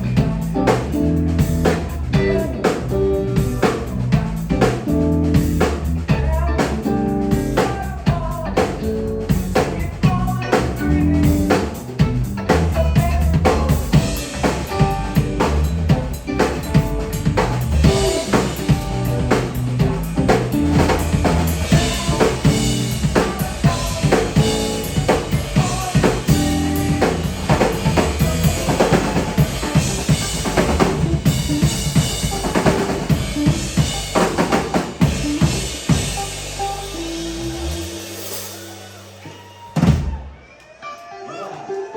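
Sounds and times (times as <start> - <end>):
electric guitar: 0.0 - 39.3
electric bass: 0.0 - 40.3
drum kit: 0.0 - 40.5.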